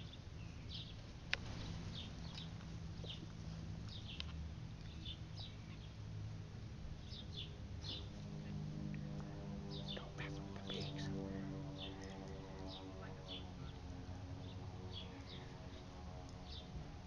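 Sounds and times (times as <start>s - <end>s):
birds chirping: 0.0s - 6.3s, 6.9s - 17.0s
steady low hum: 0.0s - 17.0s.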